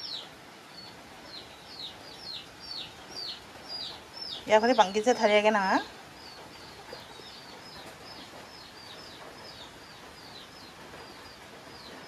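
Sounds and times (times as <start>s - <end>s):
bird chirping: 0.0s - 12.0s
faint steady hiss: 0.0s - 12.0s.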